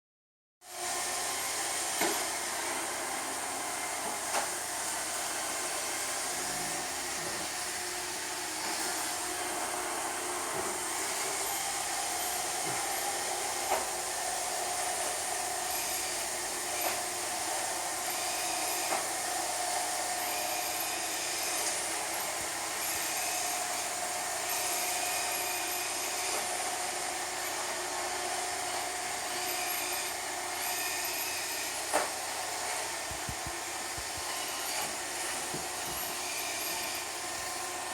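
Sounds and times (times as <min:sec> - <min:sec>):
robot vacuum whirring: 0:01.1 - 0:37.9.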